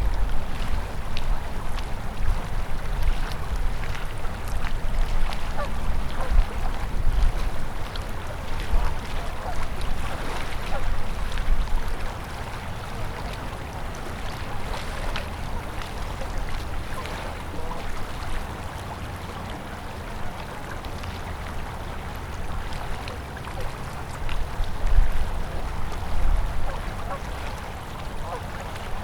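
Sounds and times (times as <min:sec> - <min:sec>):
river flowing with splashes: 0:00.0 - 0:29.0
water gurgling: 0:00.0 - 0:29.0
wind rumble on microphone: 0:00.0 - 0:29.0.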